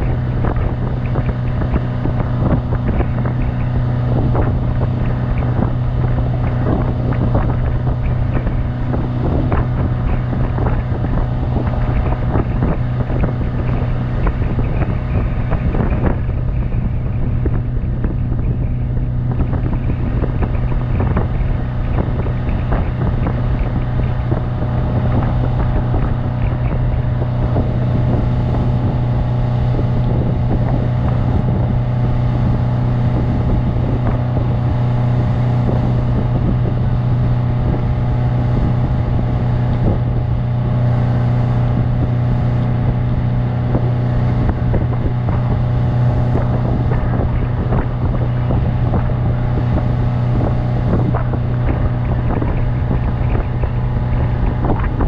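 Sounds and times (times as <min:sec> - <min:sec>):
outboard motor droning: 0:00.0 - 0:55.0
wind buffeting microphone: 0:00.0 - 0:55.0.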